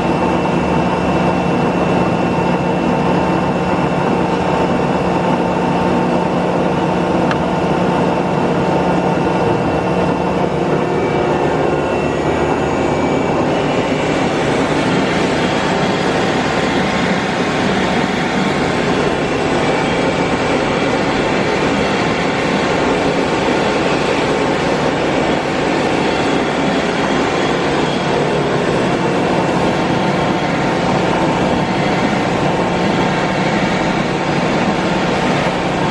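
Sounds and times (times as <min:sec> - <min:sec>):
grinder machine hum and whine: 0:00.0 - 0:35.9.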